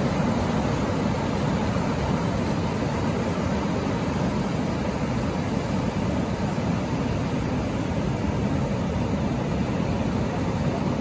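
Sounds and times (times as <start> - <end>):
water washing over beach: 0.0 - 11.0.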